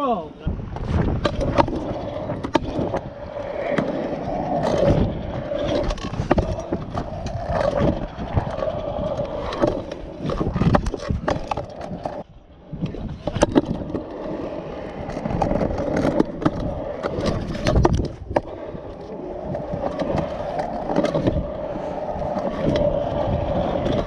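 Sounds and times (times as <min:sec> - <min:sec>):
scooter wheels rolling on concrete: 0:00.6 - 0:24.0.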